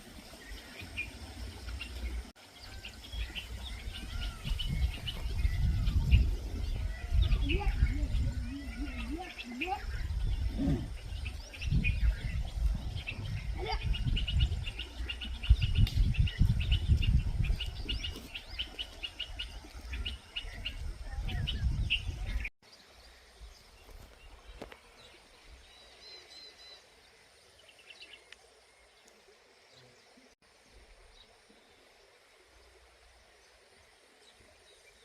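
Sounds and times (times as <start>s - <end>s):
small birds chirping: 0.0s - 30.4s.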